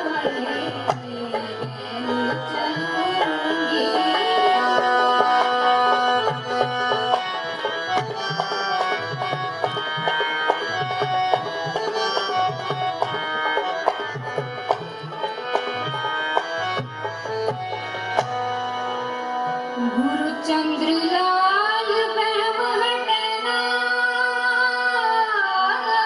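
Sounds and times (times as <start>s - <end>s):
harmonium chords: 0.0s - 26.0s.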